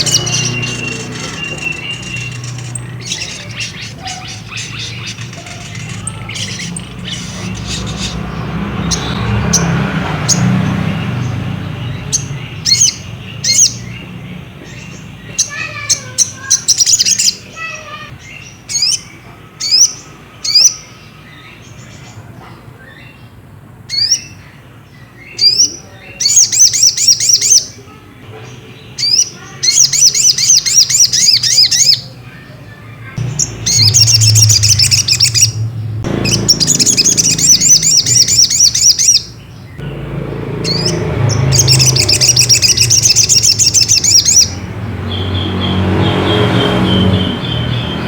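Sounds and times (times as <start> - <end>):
bird chirping and trilling: 0.0 - 22.2, 22.8 - 48.0.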